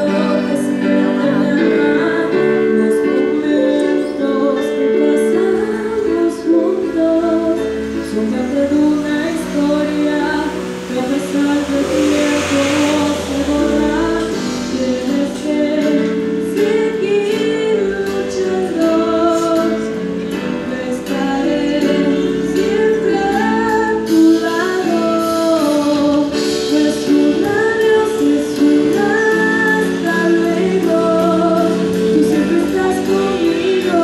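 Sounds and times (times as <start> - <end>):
boy singing into microphone: 0.0 - 34.0
instrumental accompaniment: 0.0 - 34.0.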